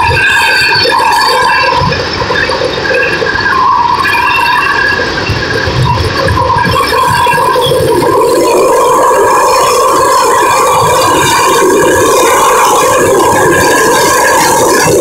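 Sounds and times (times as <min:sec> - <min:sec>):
jet engine whine and thrust: 0:00.0 - 0:15.0.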